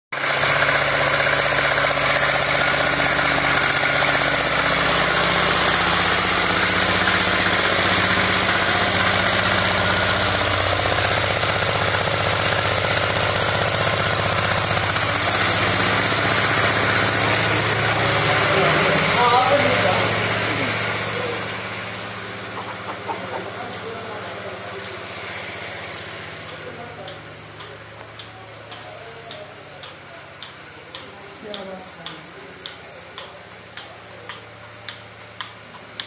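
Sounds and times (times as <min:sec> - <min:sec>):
small petrol engine running: 0:00.1 - 0:36.0.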